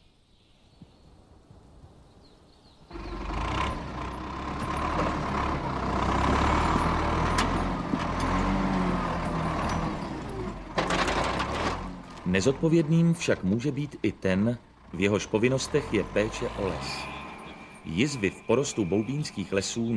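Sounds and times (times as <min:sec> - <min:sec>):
heavy vehicle engine rumbling: 0:02.9 - 0:19.9.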